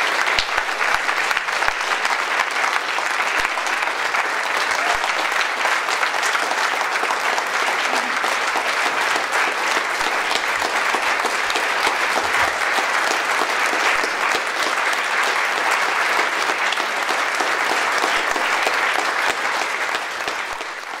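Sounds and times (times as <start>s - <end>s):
audience applause: 0.0s - 21.0s.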